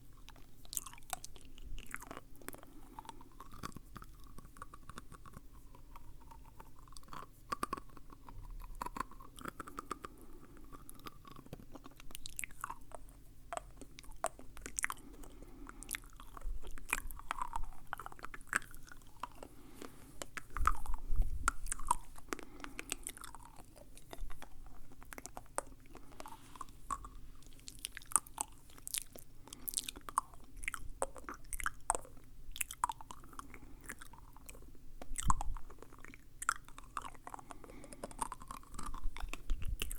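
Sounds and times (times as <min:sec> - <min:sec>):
wet mouth clicks and smacks: 0:00.2 - 0:39.9.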